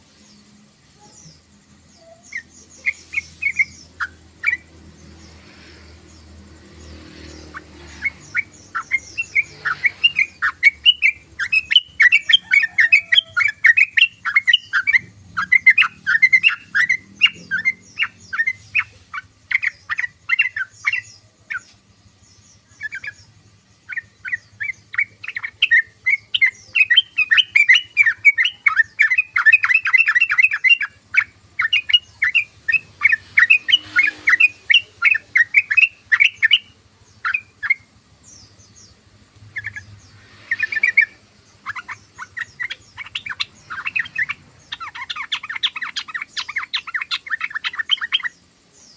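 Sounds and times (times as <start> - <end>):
bird chattering: 1.1 - 21.8, 22.5 - 48.9.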